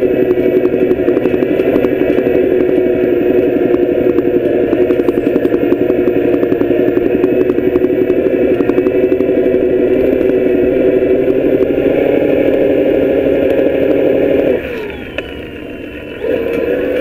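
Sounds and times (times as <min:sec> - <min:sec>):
electric bike motor whining: 0:00.0 - 0:17.0
fast knocking from hub: 0:00.0 - 0:17.0.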